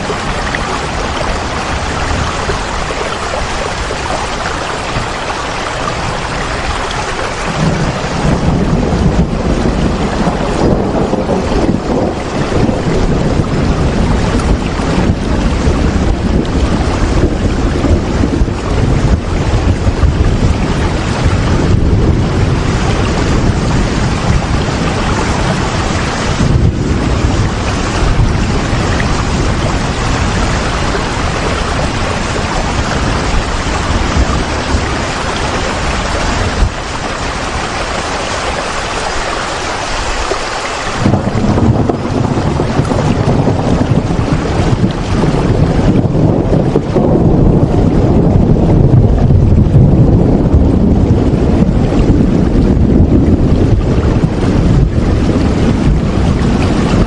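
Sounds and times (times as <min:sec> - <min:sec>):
low rumble: 0:00.0 - 0:37.3, 0:41.0 - 0:57.0
heavy rain hissing: 0:00.0 - 0:45.7.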